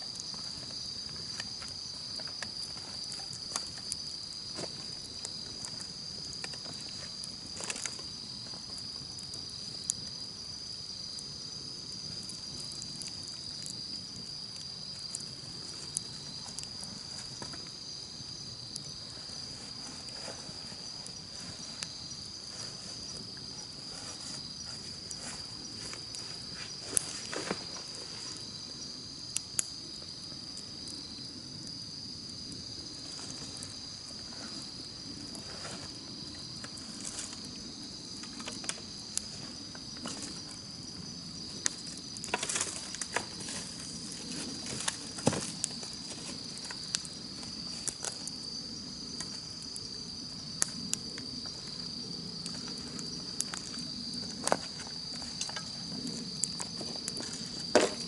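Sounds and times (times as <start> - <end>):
campfire crackling: 0.0 - 58.0
chirping insects: 0.0 - 58.0.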